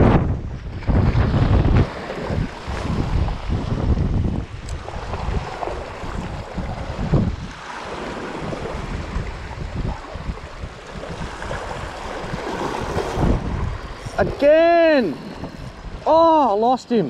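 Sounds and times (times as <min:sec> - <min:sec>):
wind buffeting microphone: 0:00.0 - 0:16.4
waves washing over rocks: 0:00.0 - 0:16.6.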